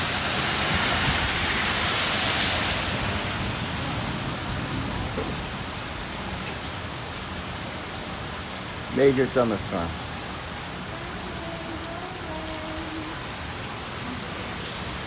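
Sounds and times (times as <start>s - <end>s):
rain splashing on surfaces: 0.0s - 15.0s.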